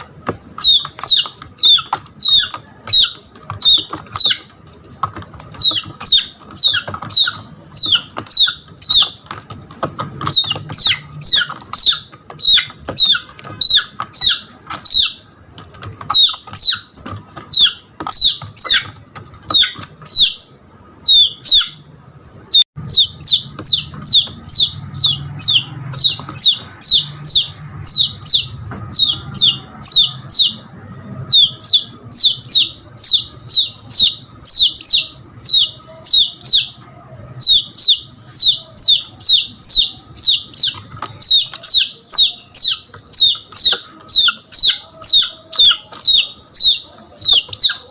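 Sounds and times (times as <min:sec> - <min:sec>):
chick distress peeping: 0:00.0 - 0:47.9.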